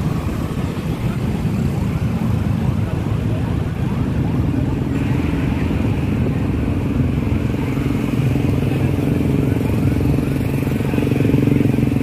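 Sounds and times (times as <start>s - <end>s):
many motorcycle engines running: 0.0s - 12.0s.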